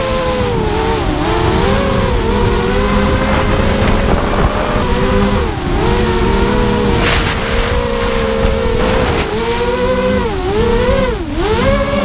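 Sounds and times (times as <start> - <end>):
racing drone motors whining: 0.0 - 12.0
wind buffeting microphone: 0.0 - 12.0.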